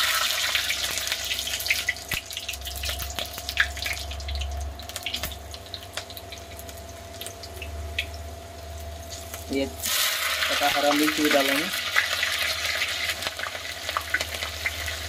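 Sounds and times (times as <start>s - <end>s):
garlic sizzling in hot oil: 0.0s - 15.0s.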